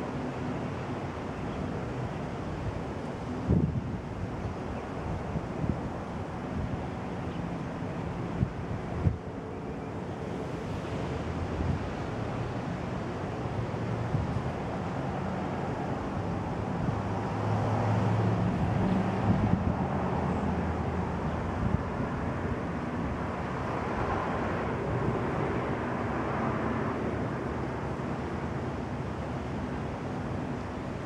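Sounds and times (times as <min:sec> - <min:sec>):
wind: 0:00.0 - 0:31.0
distant traffic: 0:06.0 - 0:31.0.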